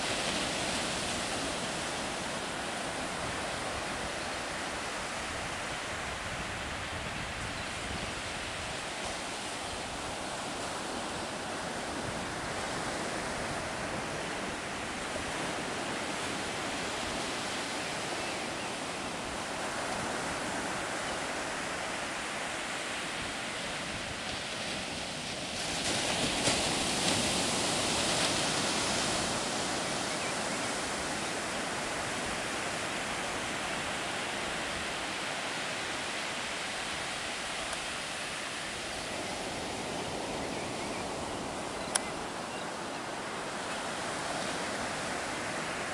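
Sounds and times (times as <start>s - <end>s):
ocean surf breaking on beach: 0.0s - 45.9s.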